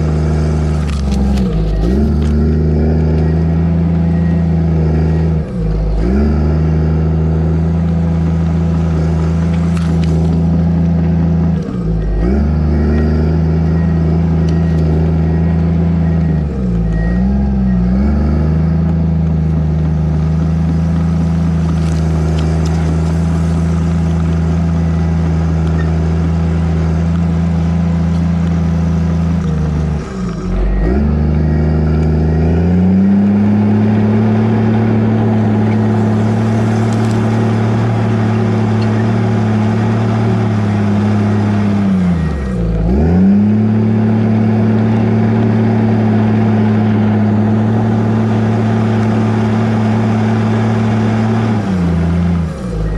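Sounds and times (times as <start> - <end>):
diesel engine under load: 0.0 - 52.9.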